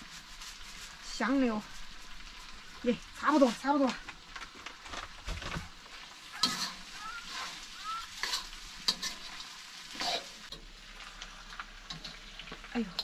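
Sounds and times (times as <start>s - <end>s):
utensil scraping a wok: 0.0s - 3.8s, 5.7s - 13.0s
food sizzling in a wok: 0.0s - 13.0s.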